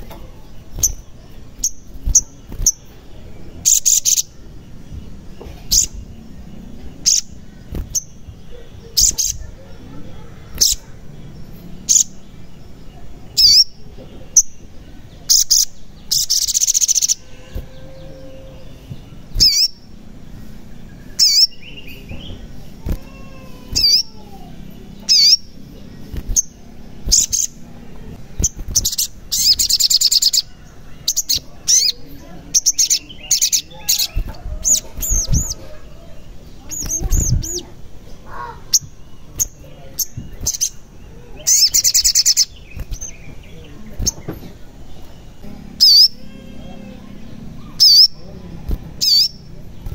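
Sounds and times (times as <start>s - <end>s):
bird chirping and trilling: 0.0s - 49.9s.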